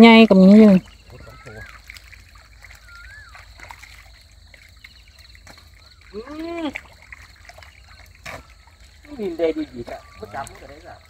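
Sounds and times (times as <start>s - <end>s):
hands splashing in muddy water: 0.6s - 11.0s.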